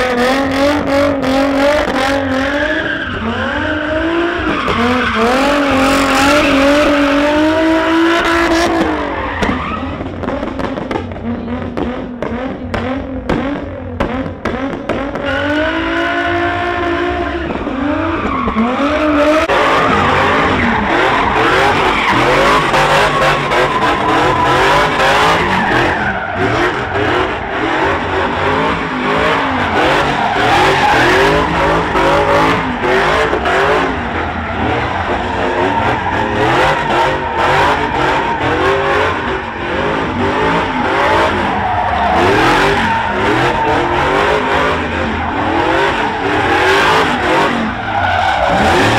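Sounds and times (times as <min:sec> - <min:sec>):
car engine revving: 0:00.0 - 0:48.9
tyres squealing on pavement: 0:01.7 - 0:10.4, 0:17.8 - 0:48.9.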